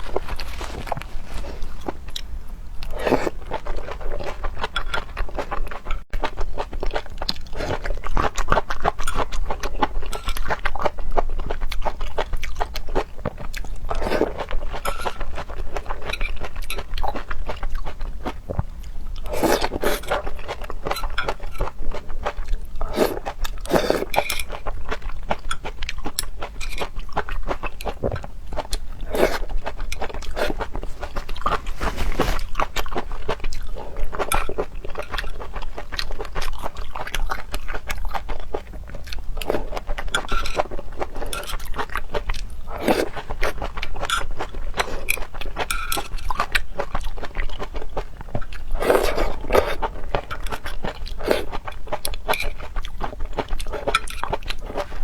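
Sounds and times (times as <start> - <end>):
person chewing crunchy seafood: 0.0 - 55.0.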